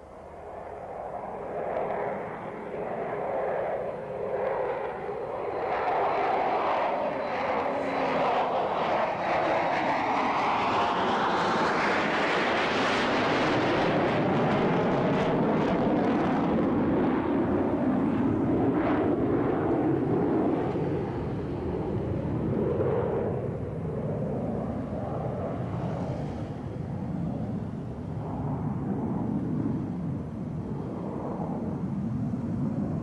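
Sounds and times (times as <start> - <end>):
jet airliner engines roaring: 0.0 - 33.0
jet engine whine sweeping in pitch: 0.0 - 33.0.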